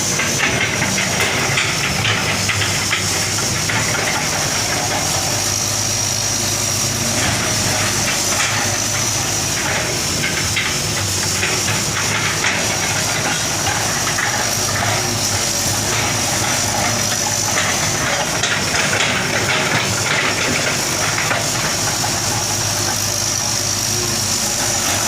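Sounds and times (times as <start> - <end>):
metal clanks and knocks: 0.0 - 5.7, 7.1 - 23.8
excavator diesel engine running: 0.0 - 25.0.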